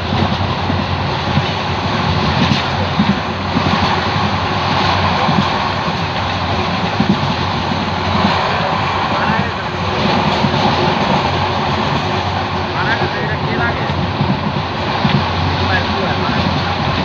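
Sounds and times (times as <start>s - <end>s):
train rushing and rumbling: 0.0s - 17.0s.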